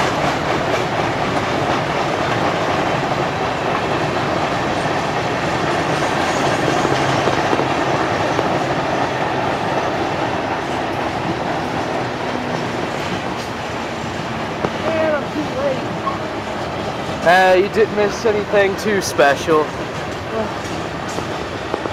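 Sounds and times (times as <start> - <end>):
train wheels on rails: 0.0 - 21.9.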